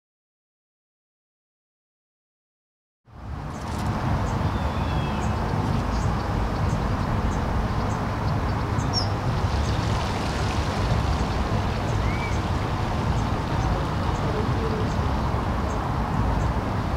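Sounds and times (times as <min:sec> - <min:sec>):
low rumble and hiss: 0:03.1 - 0:16.9.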